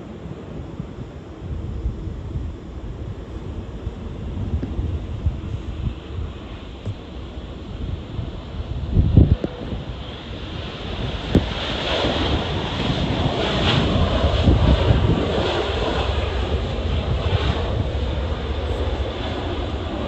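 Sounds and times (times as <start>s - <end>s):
gusty wind on microphone: 0.0s - 20.0s
jet airliner engines passing: 0.0s - 20.0s.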